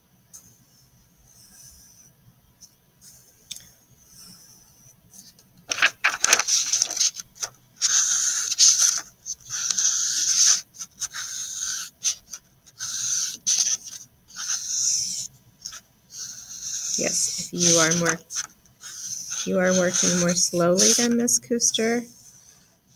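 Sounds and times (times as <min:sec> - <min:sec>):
marker scratching on paper: 0:04.1 - 0:22.9.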